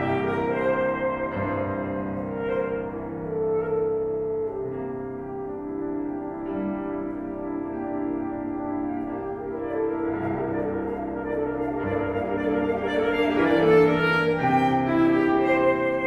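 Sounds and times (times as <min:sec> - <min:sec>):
alto saxophone melody: 0:00.0 - 0:16.0
piano accompaniment: 0:00.0 - 0:16.0.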